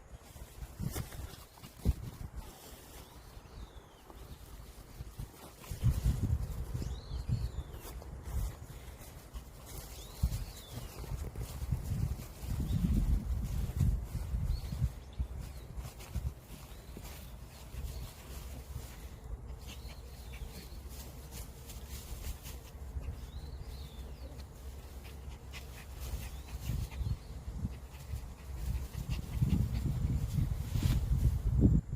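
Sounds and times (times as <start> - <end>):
wind rumble on microphone: 0.0 - 31.9
dog rustling in grass: 0.1 - 31.8.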